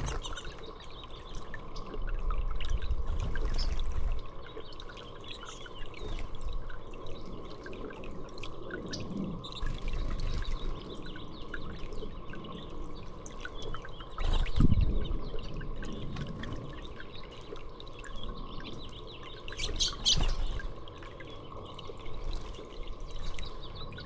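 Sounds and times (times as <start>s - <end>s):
small birds chirping: 0.0s - 2.0s, 3.1s - 24.0s
water trickling and dripping: 0.0s - 24.0s.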